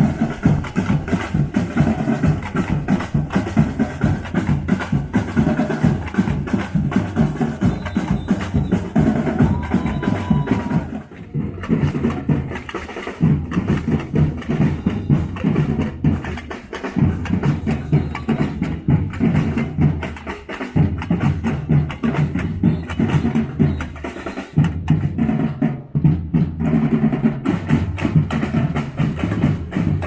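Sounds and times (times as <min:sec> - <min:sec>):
live drums fast rhythm: 0:00.0 - 0:30.0.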